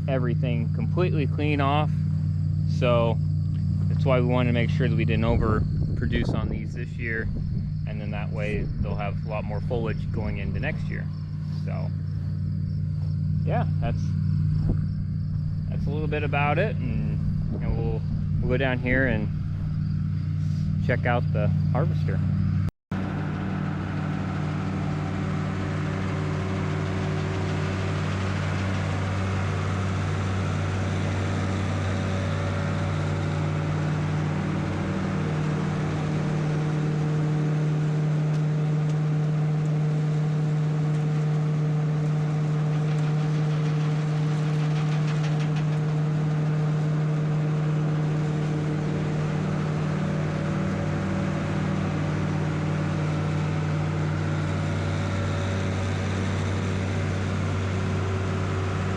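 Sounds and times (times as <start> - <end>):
harvester engine running: 0.0 - 58.9.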